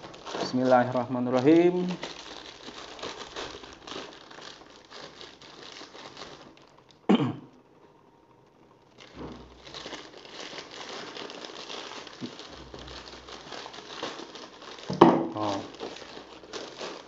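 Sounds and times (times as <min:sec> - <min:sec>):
plastic mailer crinkling: 0:00.0 - 0:07.0, 0:08.9 - 0:17.0.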